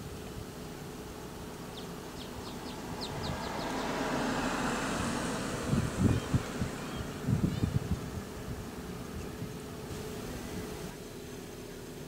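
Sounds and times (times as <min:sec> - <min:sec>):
broad rush of noise: 0:00.0 - 0:12.0.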